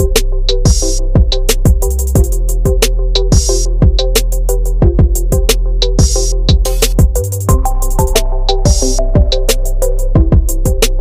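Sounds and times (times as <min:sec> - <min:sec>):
electronic drum beat: 0:00.0 - 0:11.0.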